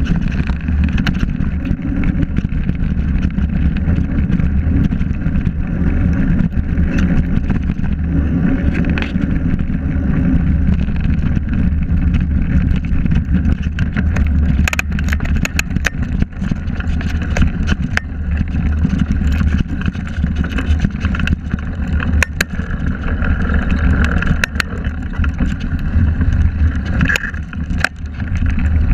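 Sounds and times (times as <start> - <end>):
bike tyres on dirt: 0.0 - 28.9
stones and bike rattling: 0.0 - 28.9
wind buffeting microphone: 0.0 - 28.9.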